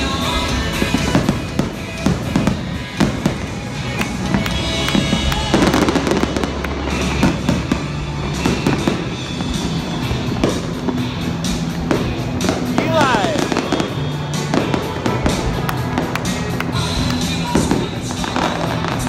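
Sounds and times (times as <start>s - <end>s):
fireworks bursting and crackling: 0.0s - 19.0s
music playing: 0.0s - 19.0s.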